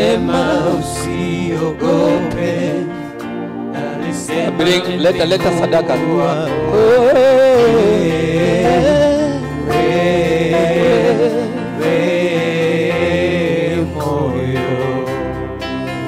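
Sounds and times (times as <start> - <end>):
person singing with vibrato: 0.0 - 5.0, 6.2 - 16.0
keyboard and band accompaniment: 0.0 - 16.0.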